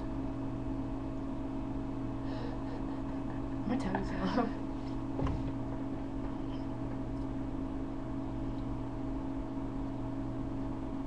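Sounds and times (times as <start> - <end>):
low hum with constant tones: 0.0 - 11.0.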